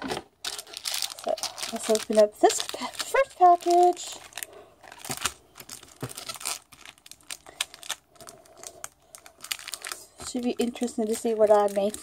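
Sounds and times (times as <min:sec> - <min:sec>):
package crinkling and rustling: 0:00.0 - 0:12.0
package tearing: 0:00.1 - 0:10.0.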